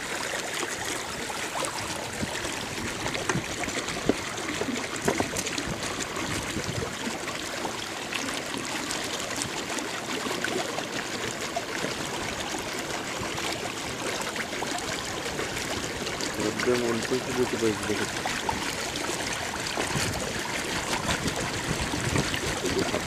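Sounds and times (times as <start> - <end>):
water lapping against boat: 0.0 - 23.0.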